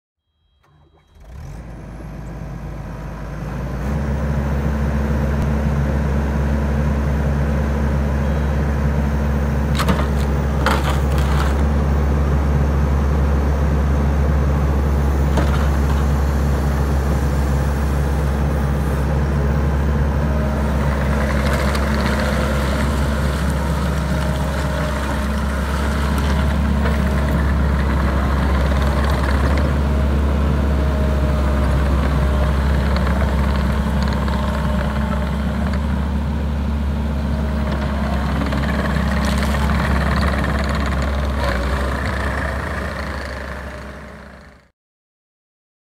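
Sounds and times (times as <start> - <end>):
diesel engine running: 0.6 - 44.7.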